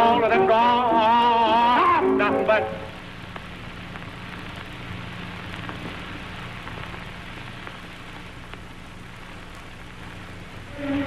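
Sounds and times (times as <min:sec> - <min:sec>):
crackling hiss of film soundtrack: 0:00.0 - 0:11.0
low hum: 0:00.0 - 0:11.0.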